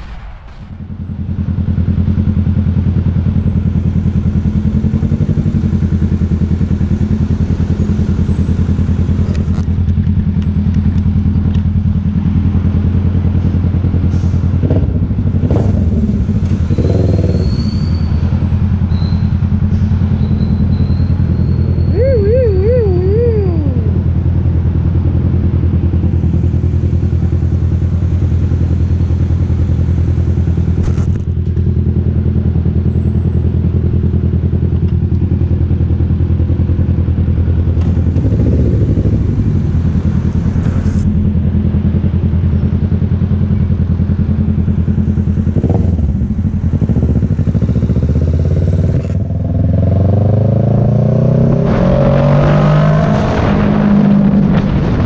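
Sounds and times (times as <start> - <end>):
motorcycle engine accelerating: 0.8 - 55.0.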